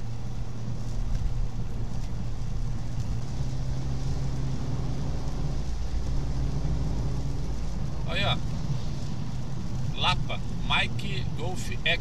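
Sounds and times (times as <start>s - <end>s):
car engine hum: 0.0s - 12.0s
tyres hissing on wet road: 0.0s - 12.0s.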